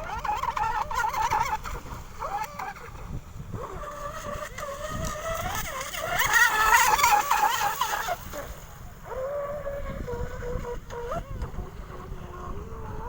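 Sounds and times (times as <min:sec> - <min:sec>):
model boat electric motor whining: 0:00.0 - 0:13.0.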